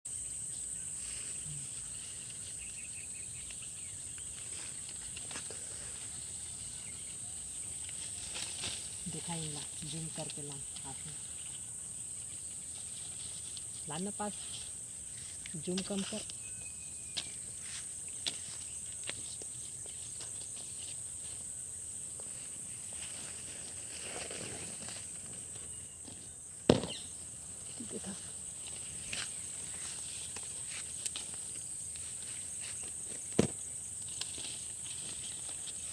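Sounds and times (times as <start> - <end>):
insects droning high-pitched: 0.1 - 35.9
soft rustle: 0.9 - 26.4, 27.6 - 33.3, 34.0 - 35.9.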